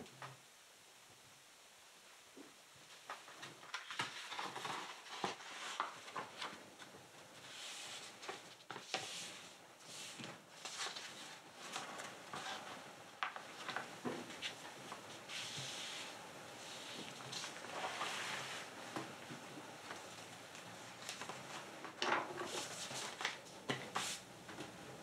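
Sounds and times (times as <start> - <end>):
paper rustling and crinkling: 3.1 - 18.7, 19.8 - 24.2.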